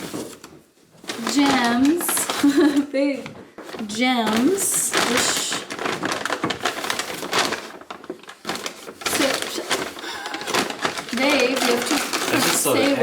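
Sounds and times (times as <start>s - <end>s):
bag crinkling and rustling: 0.0s - 13.0s.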